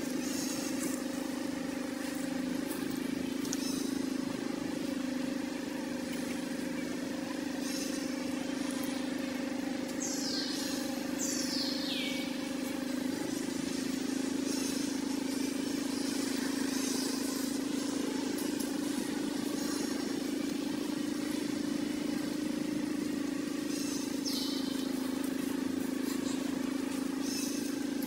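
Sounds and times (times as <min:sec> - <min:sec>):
motor droning: 0:00.0 - 0:28.0.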